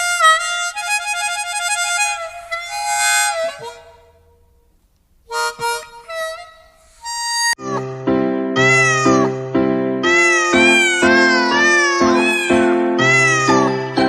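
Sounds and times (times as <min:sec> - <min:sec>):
harmonica wavering notes: 0:00.0 - 0:04.6, 0:05.3 - 0:14.0.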